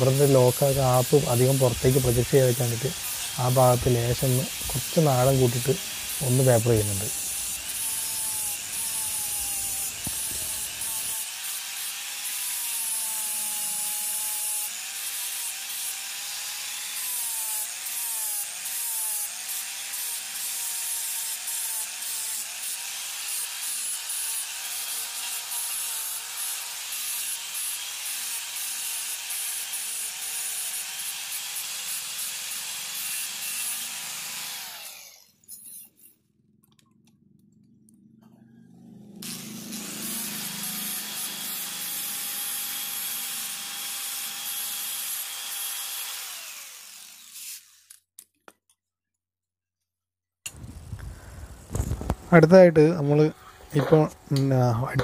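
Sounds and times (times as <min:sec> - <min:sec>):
angle grinder sanding wood: 0:00.0 - 0:36.1, 0:39.2 - 0:47.9.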